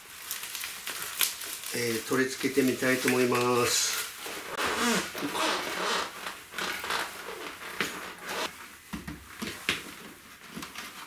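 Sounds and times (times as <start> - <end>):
cloth rustling and scraping: 1.8 - 11.0.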